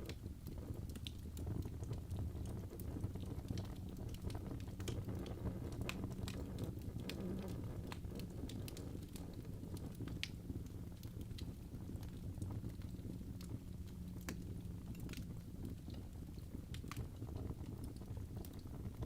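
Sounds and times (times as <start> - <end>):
burning logs crackling: 0.0 - 19.0
low rumble of flames: 0.0 - 19.0
sharp pops and snaps: 0.0 - 19.0.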